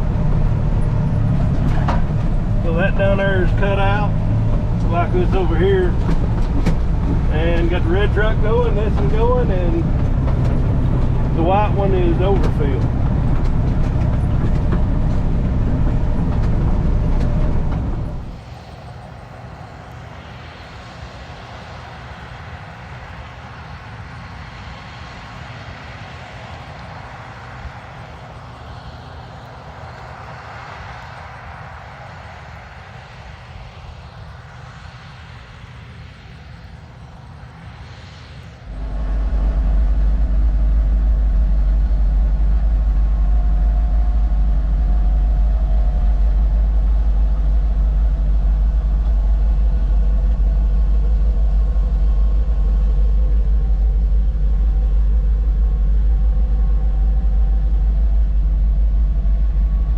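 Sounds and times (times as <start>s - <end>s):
loud low rumble: 0.0s - 59.9s
vehicle engine running: 0.0s - 59.9s.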